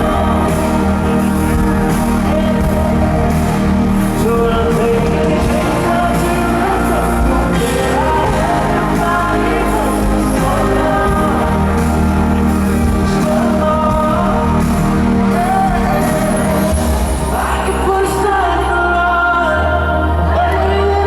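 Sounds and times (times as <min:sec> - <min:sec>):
live pop band: 0:00.0 - 0:21.0
male lead vocal: 0:00.0 - 0:21.0.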